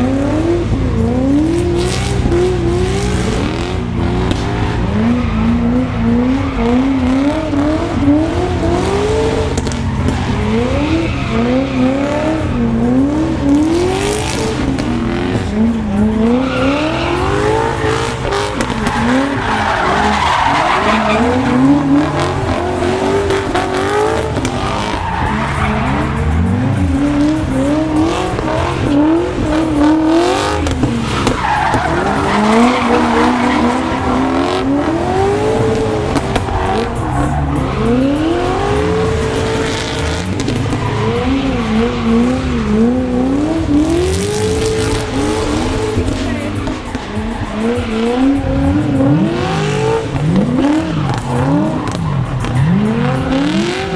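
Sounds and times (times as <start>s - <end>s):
car engines revving: 0.0s - 53.9s
tyres squealing: 0.4s - 53.9s.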